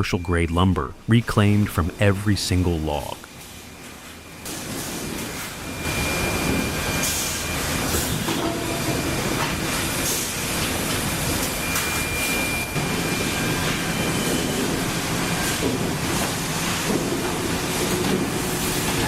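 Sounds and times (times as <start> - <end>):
high whine: 0.0 - 16.4.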